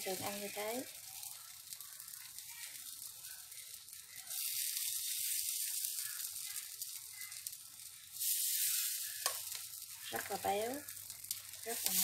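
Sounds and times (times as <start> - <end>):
batter sizzling in a pan: 0.0 - 12.0.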